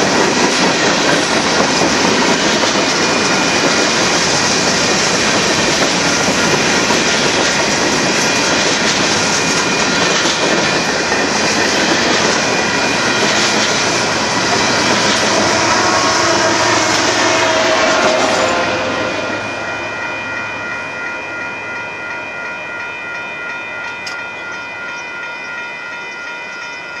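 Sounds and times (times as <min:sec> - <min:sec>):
diesel locomotive engine hum: 0:00.0 - 0:27.0
freight cars wheels on rail: 0:00.0 - 0:27.0.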